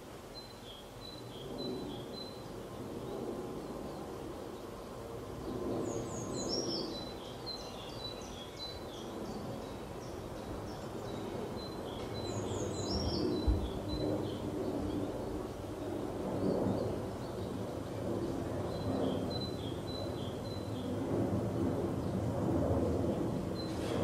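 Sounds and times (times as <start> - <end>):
songbird singing: 0.0 - 22.3, 23.2 - 24.0.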